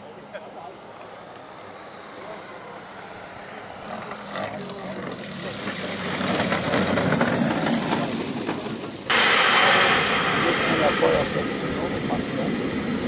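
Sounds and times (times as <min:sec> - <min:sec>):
model aircraft engine rushing: 0:00.0 - 0:13.0.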